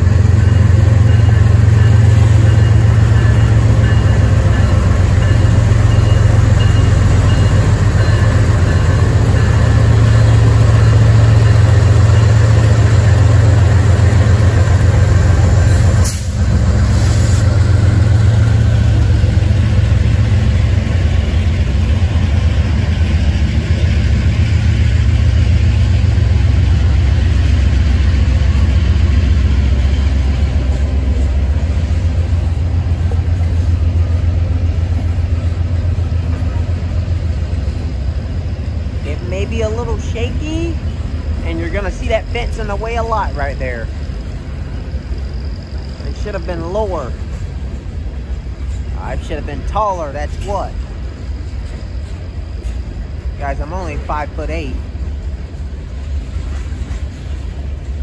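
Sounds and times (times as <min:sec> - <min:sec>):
diesel locomotives rumbling: 0:00.0 - 0:58.0
freight cars rolling on rails: 0:00.0 - 0:58.0.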